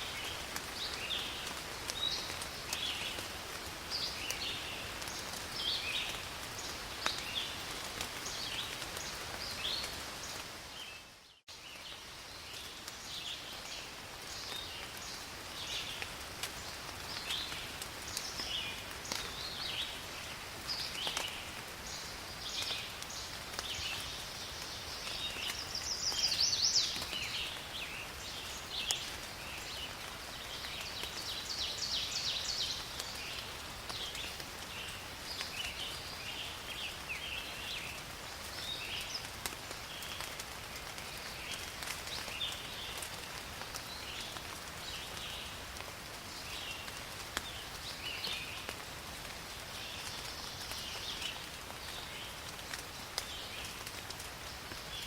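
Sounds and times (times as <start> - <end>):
steady rain in forest: 0.0 - 55.0.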